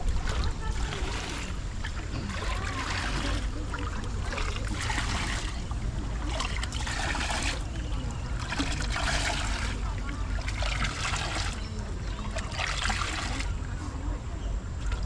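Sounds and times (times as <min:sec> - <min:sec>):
people talking faintly: 0:00.0 - 0:15.0
water trickling and splashing: 0:00.0 - 0:15.0.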